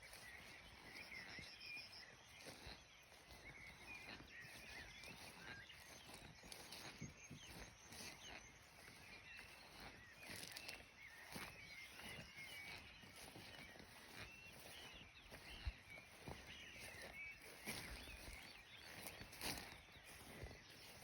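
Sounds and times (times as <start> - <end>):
wetland birds chirping: 0.0 - 21.0.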